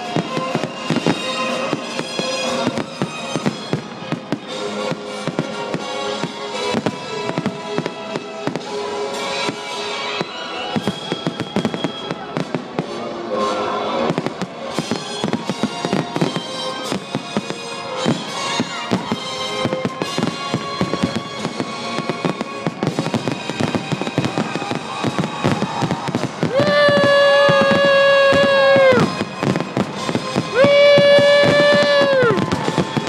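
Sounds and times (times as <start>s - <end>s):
fireworks bangs: 0.0s - 33.0s
music: 0.0s - 33.0s.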